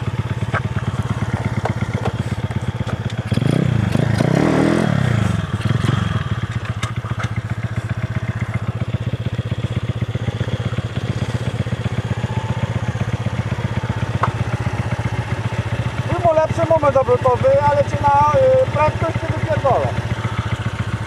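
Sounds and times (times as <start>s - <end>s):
motorcycle engines idling: 0.0s - 21.0s
small motorcycle engines revving: 0.0s - 21.0s.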